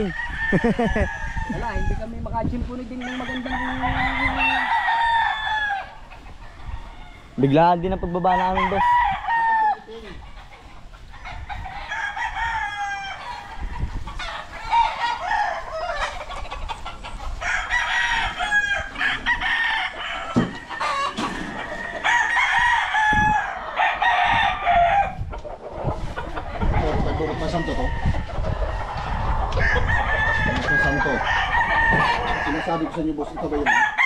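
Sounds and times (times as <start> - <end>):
roosters crowing: 0.0 - 2.2, 2.8 - 34.0.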